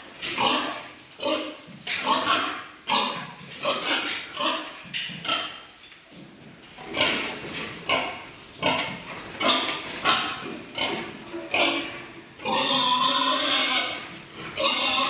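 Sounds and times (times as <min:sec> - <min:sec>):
pig grunting and squealing: 0:00.3 - 0:05.6, 0:06.8 - 0:15.0.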